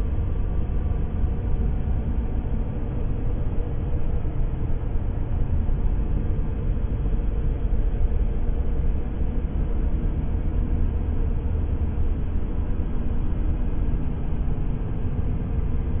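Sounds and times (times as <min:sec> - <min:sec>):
faint hum: 0:00.0 - 0:16.0
low room tone rumble: 0:00.0 - 0:16.0.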